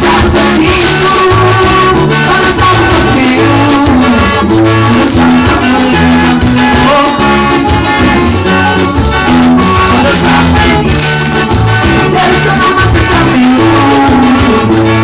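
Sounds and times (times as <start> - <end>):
upbeat gospel band music: 0.0 - 15.0.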